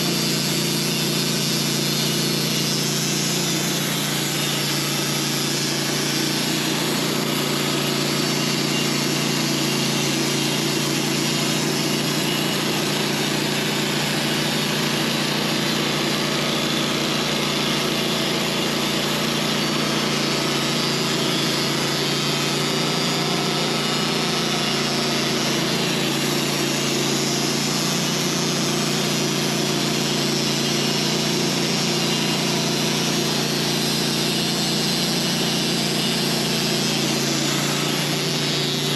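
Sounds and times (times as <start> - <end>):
saw hissing through log: 0.0 - 38.9
sawmill engine drone: 0.0 - 38.9.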